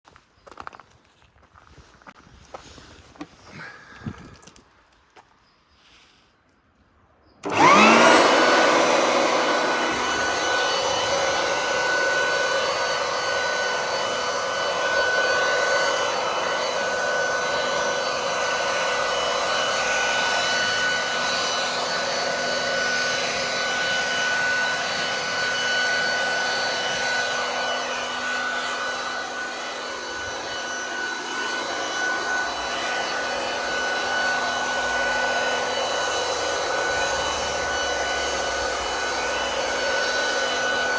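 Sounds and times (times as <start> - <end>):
leaf blower whining: 7.4 - 40.9.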